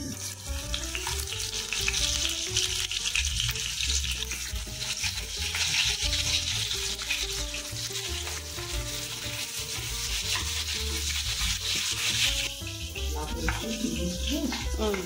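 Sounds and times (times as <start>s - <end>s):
background music with bass: 0.0s - 15.0s
food sizzling in hot oil: 0.0s - 15.0s
spatula scraping pan: 0.0s - 15.0s.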